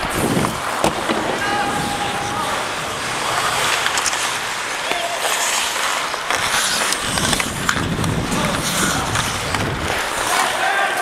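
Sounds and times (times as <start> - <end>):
skate blades scraping ice: 0.0 - 11.0
sticks and puck clicking on ice: 2.1 - 11.0.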